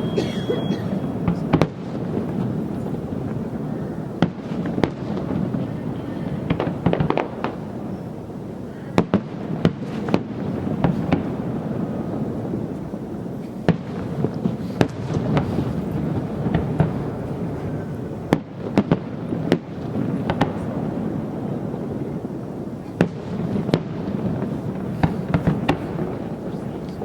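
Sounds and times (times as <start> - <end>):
firework cracks: 0.0 - 27.0.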